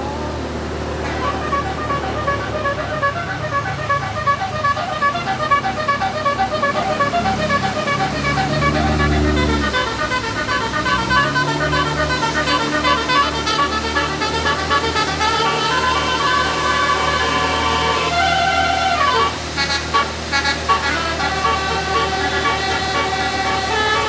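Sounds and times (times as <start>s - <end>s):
bus engine running: 0.0s - 24.0s
bus horn playing tune: 0.0s - 24.0s.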